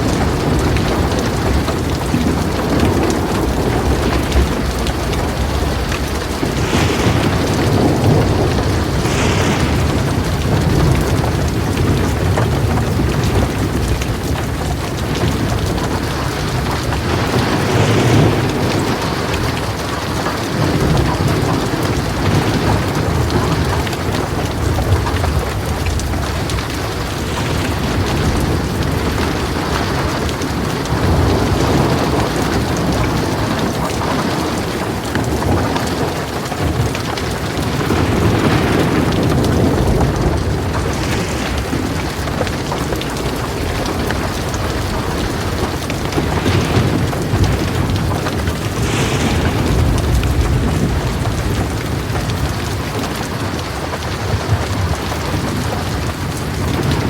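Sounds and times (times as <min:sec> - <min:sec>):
heavy rain pouring: 0:00.0 - 0:57.0
low rolling thunder: 0:00.0 - 0:57.0.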